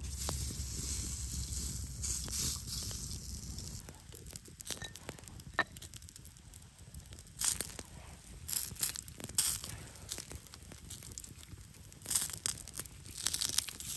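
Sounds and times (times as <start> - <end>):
sausage sizzling on grill pan: 0.0 - 13.9
sharp crackles: 0.0 - 13.9.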